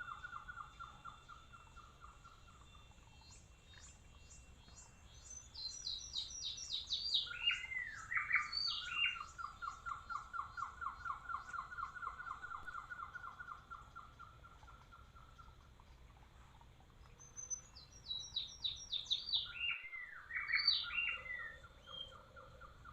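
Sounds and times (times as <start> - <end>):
bird singing: 0.0 - 16.0, 17.0 - 22.9.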